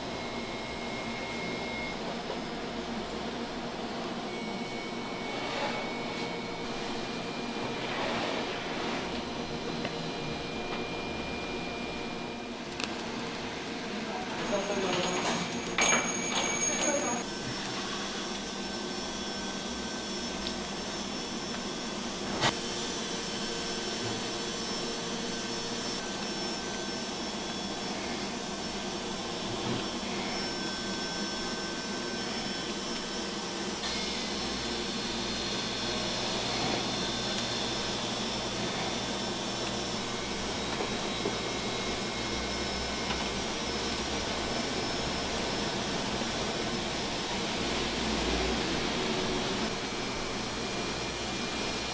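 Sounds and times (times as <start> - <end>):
machinery humming: 0.0 - 51.9.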